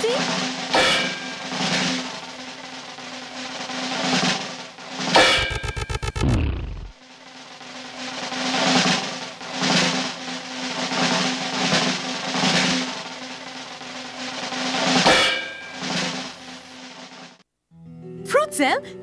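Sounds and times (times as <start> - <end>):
drum rolls: 0.0 - 17.4.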